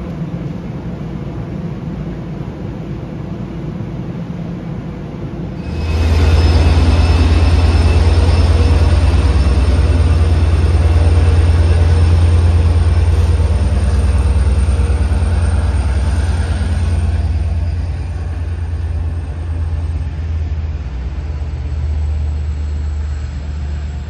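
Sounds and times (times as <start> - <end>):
diesel locomotive engine rumbling: 0.0 - 24.0.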